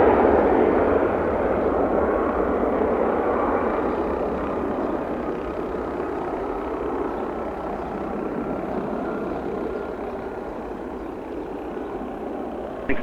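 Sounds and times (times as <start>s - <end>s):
jet rumble with faint whine: 0.0s - 13.0s.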